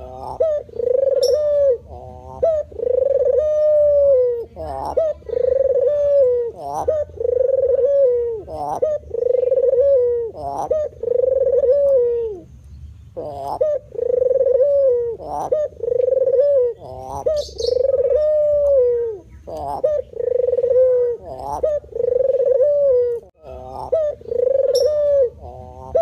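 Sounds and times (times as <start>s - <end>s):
dove cooing: 0.0s - 12.5s, 13.2s - 26.0s.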